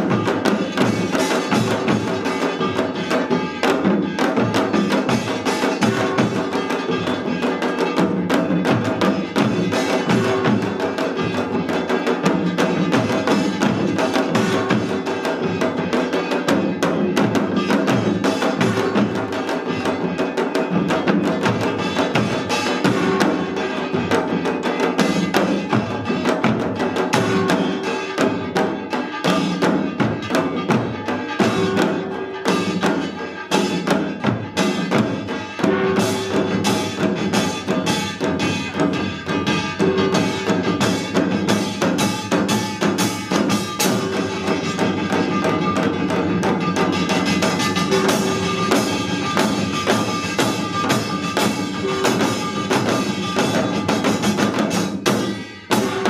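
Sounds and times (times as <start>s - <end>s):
barrel drums: 0.0s - 56.0s
hourglass drums: 0.0s - 56.0s
small gongs: 0.0s - 56.0s.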